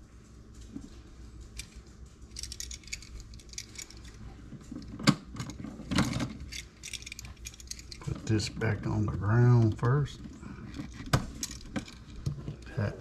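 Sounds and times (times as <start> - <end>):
metallic clicks and scrapes: 0.2 - 12.9.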